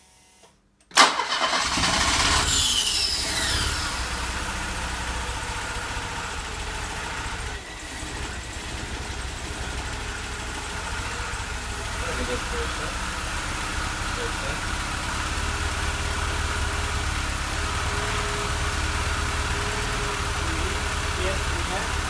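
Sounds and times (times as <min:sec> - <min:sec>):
petrol engine starting and running: 0:00.9 - 0:22.0.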